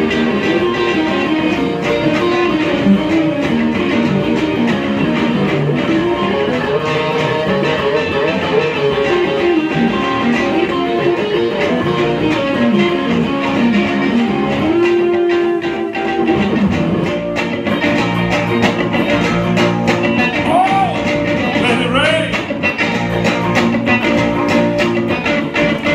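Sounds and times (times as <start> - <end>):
electric guitars playing: 0.0 - 25.9.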